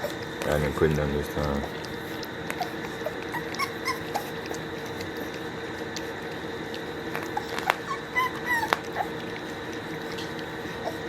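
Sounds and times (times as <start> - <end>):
puppies whimpering: 0.0 - 11.0
steady background hum: 0.0 - 11.0.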